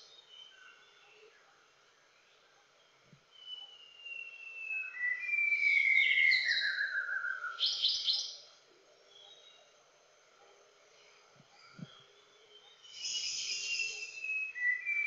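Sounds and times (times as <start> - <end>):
bird singing: 0.0 - 9.8, 11.0 - 15.0.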